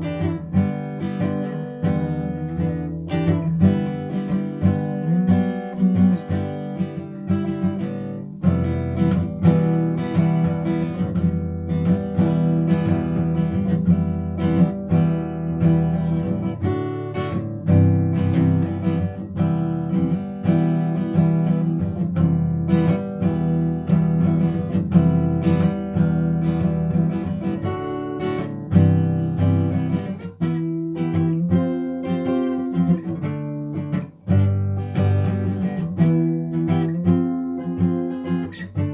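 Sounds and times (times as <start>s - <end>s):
acoustic guitar chords: 0.0s - 38.9s.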